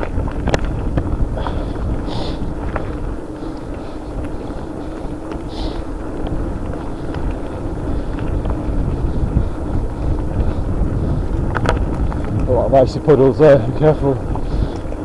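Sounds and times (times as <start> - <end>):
bike clicks and rattles: 0.0 - 15.0
tyres rumbling on trail: 0.0 - 15.0
wind buffeting microphone: 0.0 - 15.0.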